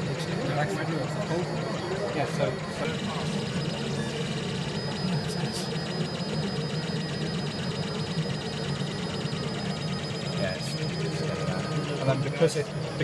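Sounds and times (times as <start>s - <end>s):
three d printer humming: 0.0s - 13.0s.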